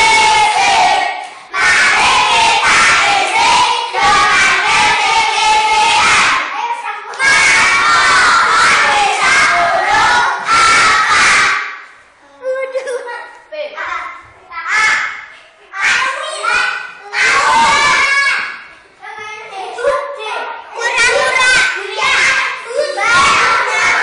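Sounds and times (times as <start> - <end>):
children chanting: 0.0 - 11.9, 14.7 - 18.7, 20.7 - 24.0.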